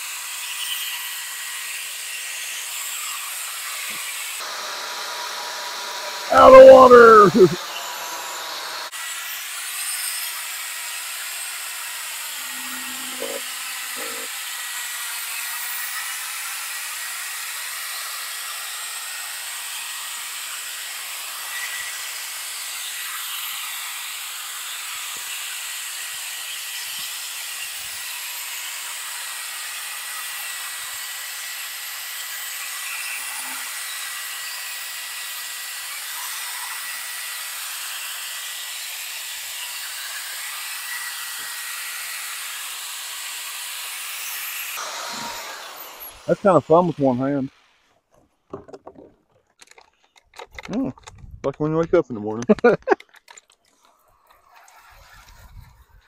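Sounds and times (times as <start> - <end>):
drill sanding with high whine: 0.0 - 47.6.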